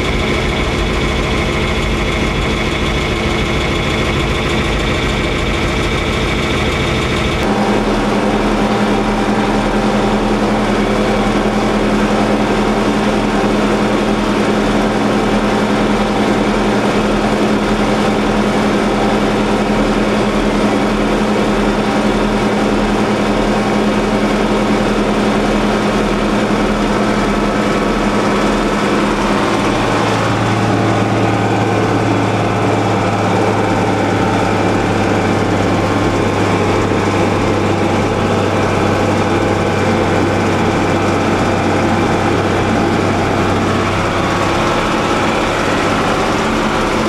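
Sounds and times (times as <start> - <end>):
tractor engine droning: 0.0 - 47.0.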